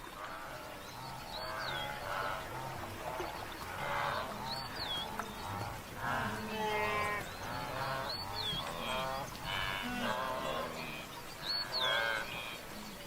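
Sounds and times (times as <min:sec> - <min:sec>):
wildebeest honking grunts: 0:00.3 - 0:12.6.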